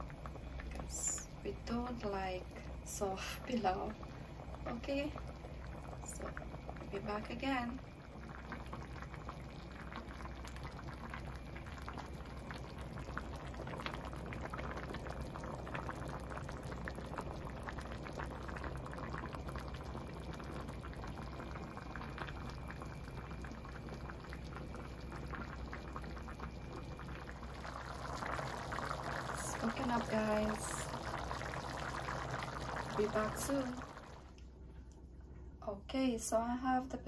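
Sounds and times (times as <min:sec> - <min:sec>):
pot bubbling with pops: 0:00.0 - 0:35.6.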